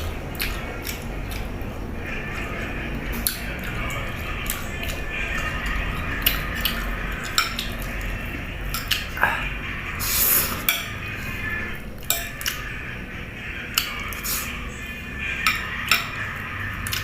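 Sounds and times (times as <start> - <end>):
utensils clinking and scraping dish: 2.0 - 12.8, 13.5 - 17.0.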